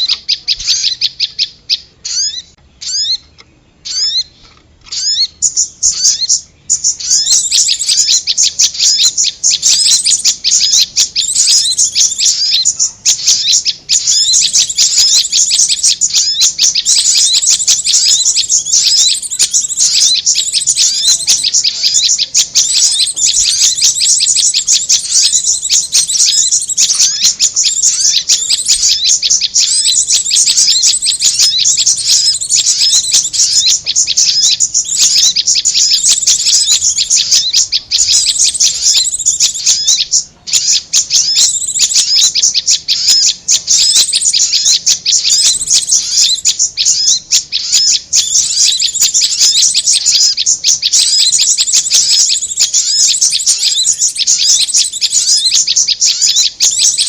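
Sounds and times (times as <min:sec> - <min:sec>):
songbirds chirping rapidly: 0:00.0 - 0:57.0.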